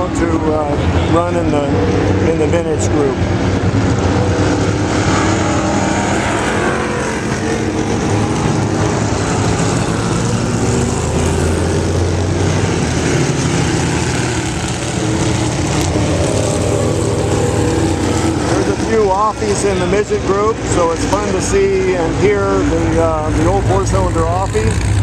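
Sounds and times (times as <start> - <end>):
racing car engines: 0.0 - 25.0.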